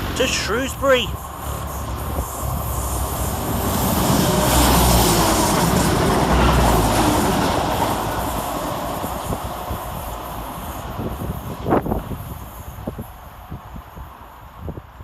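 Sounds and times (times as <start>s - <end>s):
train engines rumbling: 0.0s - 15.0s
train wheels on rails: 0.0s - 15.0s.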